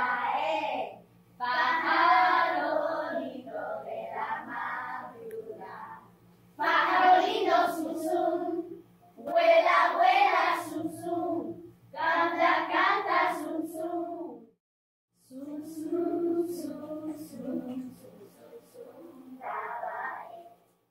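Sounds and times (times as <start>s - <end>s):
children singing: 0.0s - 6.0s, 6.6s - 14.4s, 15.2s - 20.4s.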